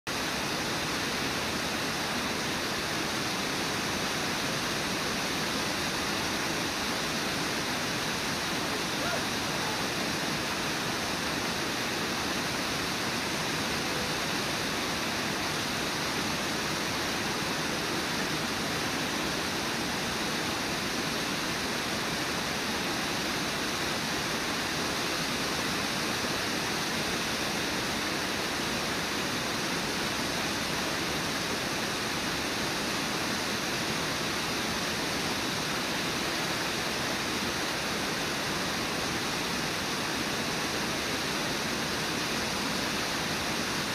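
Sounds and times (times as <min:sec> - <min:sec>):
waterfall rushing: 0:00.1 - 0:43.9.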